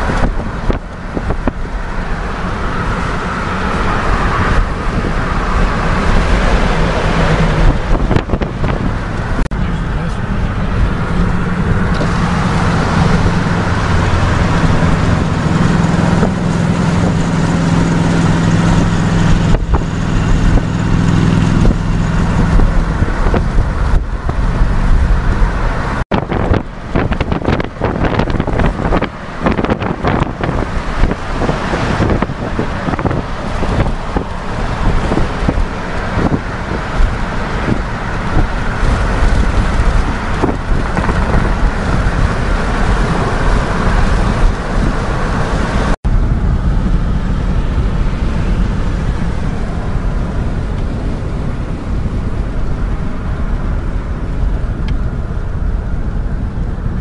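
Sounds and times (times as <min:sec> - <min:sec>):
car road and engine noise: 0:00.0 - 0:57.0
wind buffeting microphone: 0:00.0 - 0:57.0.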